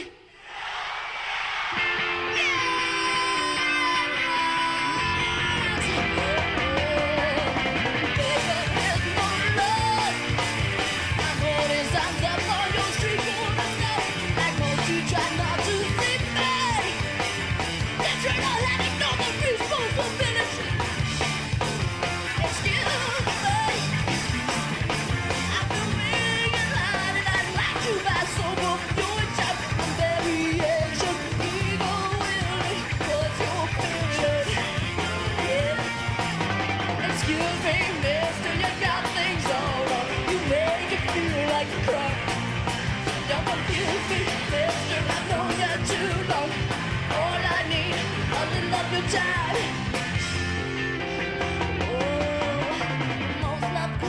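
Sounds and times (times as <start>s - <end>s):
lead singer: 0.0s - 54.0s
electric guitar: 1.7s - 54.0s
live rock band playing: 1.7s - 54.0s
steady drum beat: 4.7s - 54.0s.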